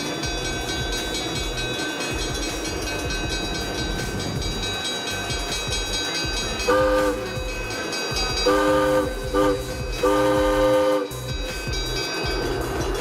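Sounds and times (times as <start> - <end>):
high whine of train: 0.0 - 13.0
train rumbling on track: 0.0 - 13.0.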